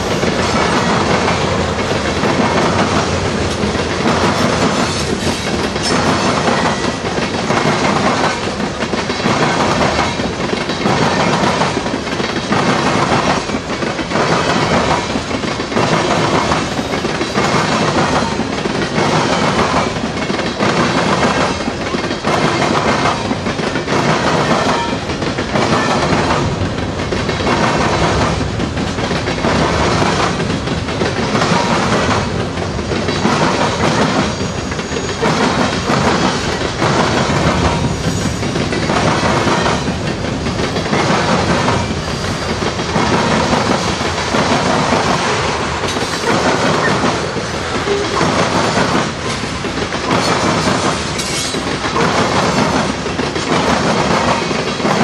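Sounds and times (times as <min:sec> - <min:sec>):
freight train rolling by: 0:00.0 - 0:55.0
wheels clacking over rail joints: 0:00.0 - 0:55.0.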